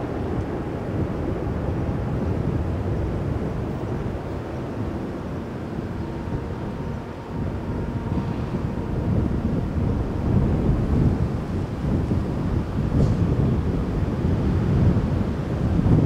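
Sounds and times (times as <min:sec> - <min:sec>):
distant jet engines rumbling: 0:00.0 - 0:16.0
wind buffeting microphone: 0:00.0 - 0:16.0.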